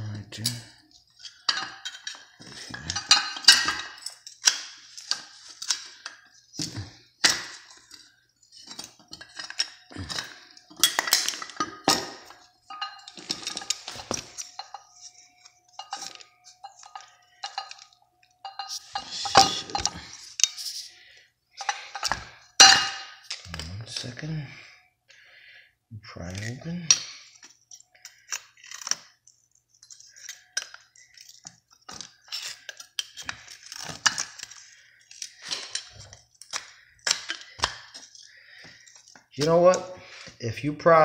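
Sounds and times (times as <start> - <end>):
metal tools clinking and scraping: 0.0 - 24.8, 26.1 - 41.0.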